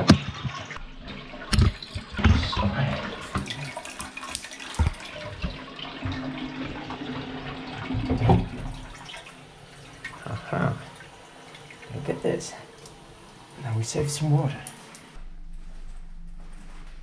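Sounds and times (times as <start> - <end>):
toilet water running: 0.0 - 15.2.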